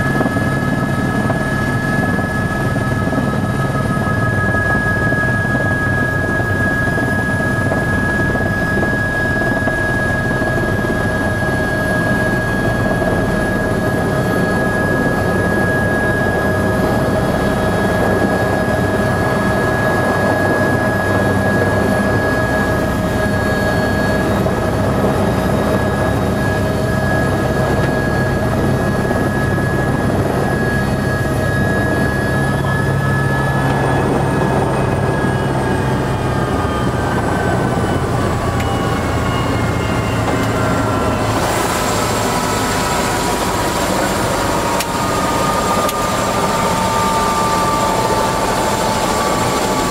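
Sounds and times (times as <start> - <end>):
helicopter rotor and engine noise: 0.0 - 49.9.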